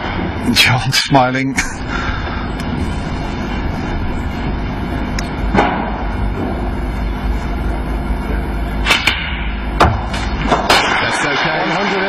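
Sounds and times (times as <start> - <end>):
low hum of hushed arena: 0.0 - 12.0.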